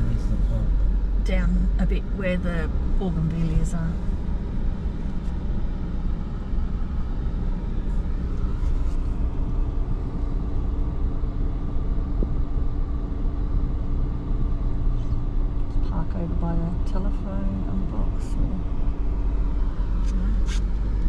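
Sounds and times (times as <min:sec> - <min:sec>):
car engine hum: 0:00.0 - 0:21.0
road noise rumble: 0:00.0 - 0:21.0.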